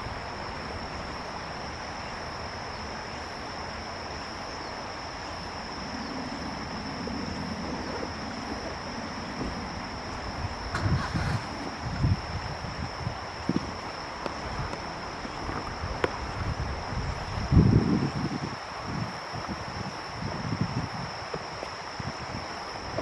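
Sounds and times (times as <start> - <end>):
insects chirring: 0.0 - 23.0
steady background hiss: 0.0 - 23.0
wind rumbling on microphone: 0.0 - 23.0.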